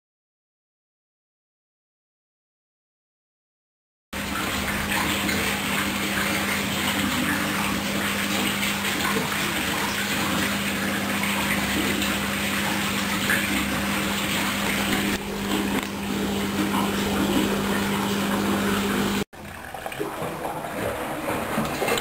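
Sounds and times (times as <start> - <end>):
washing machine rinsing: 4.2 - 22.0.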